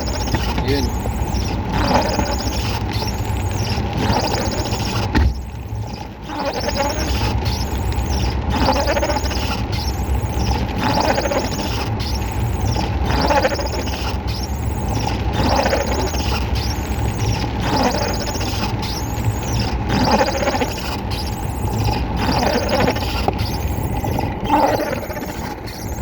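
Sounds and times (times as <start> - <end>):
high squeal: 0.0 - 26.0.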